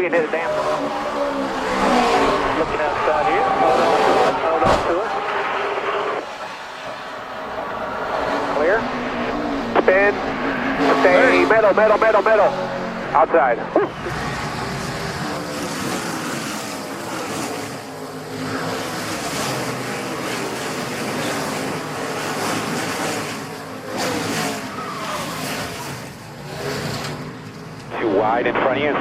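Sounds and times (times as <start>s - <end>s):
race car engine at speed: 0.0s - 29.0s
road and wind noise: 0.0s - 29.0s.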